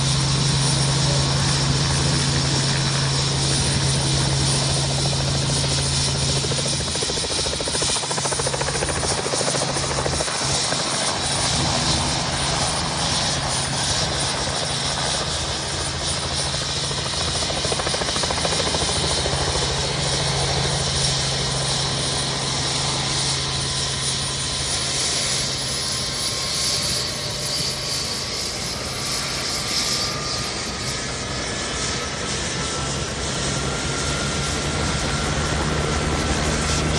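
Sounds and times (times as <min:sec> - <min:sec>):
helicopter running: 0:00.0 - 0:36.9.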